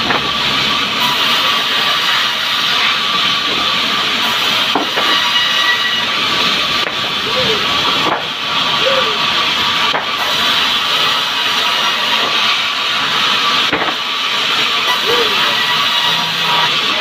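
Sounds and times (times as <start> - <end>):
band saw hissing and whining: 0.1 - 17.0.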